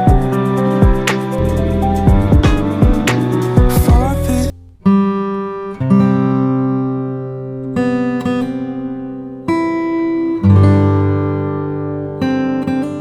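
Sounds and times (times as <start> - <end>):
acoustic guitar chords ringing: 0.0 - 13.0.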